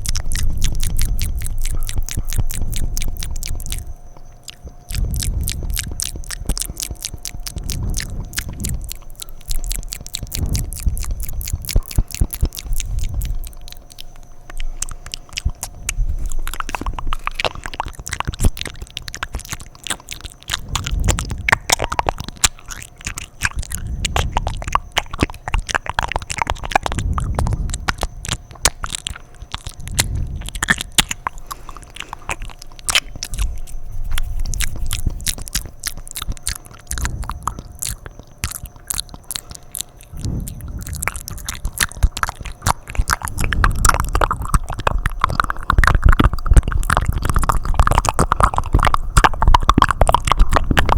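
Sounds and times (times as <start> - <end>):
wet mouth clicks and smacks: 0.0 - 50.9.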